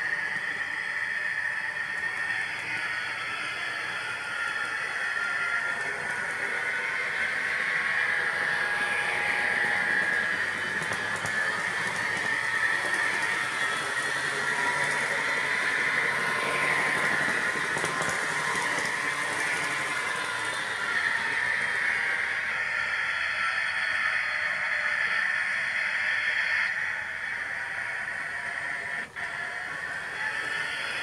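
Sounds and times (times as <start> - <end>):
model train diesel engine sound: 0.0 - 31.0
motor whir and wheels on rails: 0.0 - 31.0.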